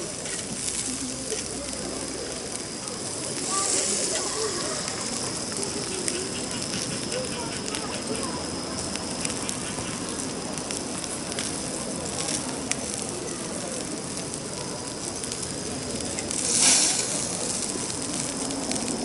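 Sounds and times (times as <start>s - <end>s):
fire crackling and hissing: 0.0s - 19.0s.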